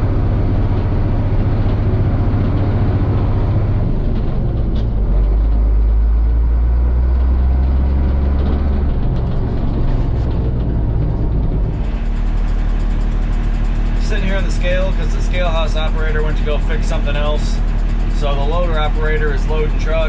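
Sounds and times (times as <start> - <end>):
diesel truck engine droning: 0.0 - 20.0.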